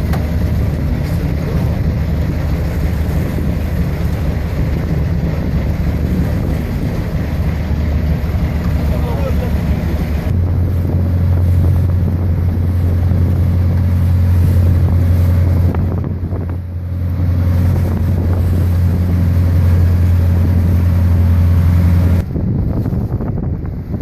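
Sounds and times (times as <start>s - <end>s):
boat engine droning: 0.0s - 24.0s
wind buffeting microphone: 0.0s - 24.0s.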